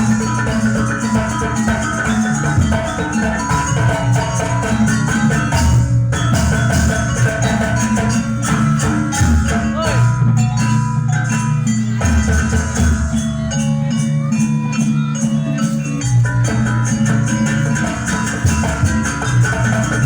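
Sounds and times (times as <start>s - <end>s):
drums playing: 0.0s - 20.0s
metallophones playing: 0.0s - 20.0s.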